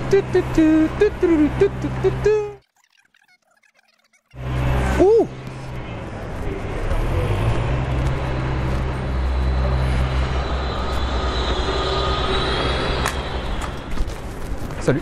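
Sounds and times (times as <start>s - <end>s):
bus engine rumbling: 0.0s - 2.6s, 4.4s - 15.0s.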